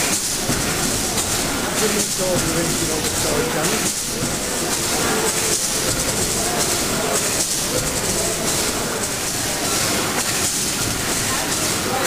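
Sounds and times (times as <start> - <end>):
steam engine mechanical clatter: 0.0 - 12.0
steam hissing: 0.0 - 12.0.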